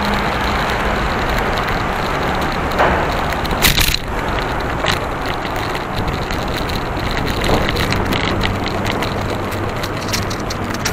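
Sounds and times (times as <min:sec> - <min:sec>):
low engine hum: 0:00.0 - 0:10.9
tyre and traffic noise: 0:00.0 - 0:10.9
wind rushing over microphone: 0:00.0 - 0:10.9.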